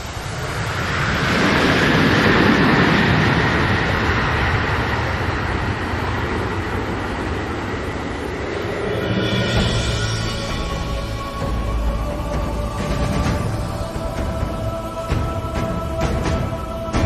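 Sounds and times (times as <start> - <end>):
jet engines whining: 0.0 - 17.0
loud rushing noise: 0.0 - 17.0.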